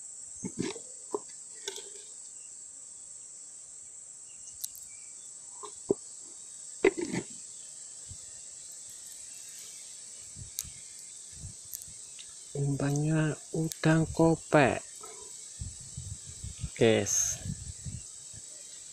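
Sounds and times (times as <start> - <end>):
insects chirring: 0.0 - 18.9.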